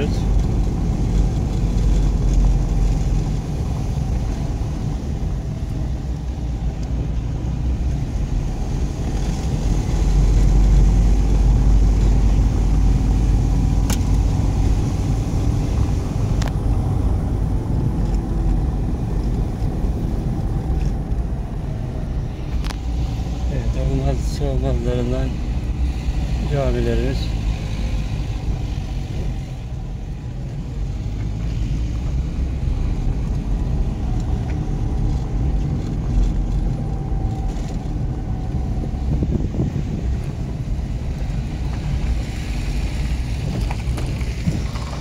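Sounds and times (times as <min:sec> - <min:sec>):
engine and tyres rumbling: 0:00.0 - 0:45.0.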